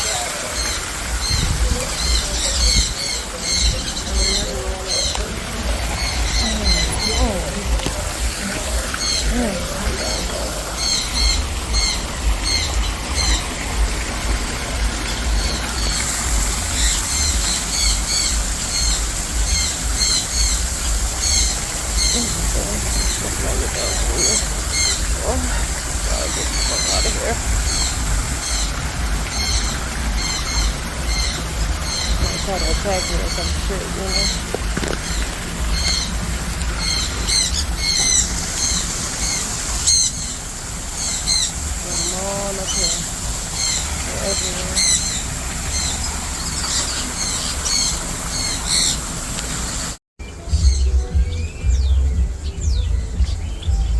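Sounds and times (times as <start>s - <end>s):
steady low rumble: 0.0s - 39.8s, 50.2s - 53.9s
birds chirping high-pitched: 0.0s - 53.9s.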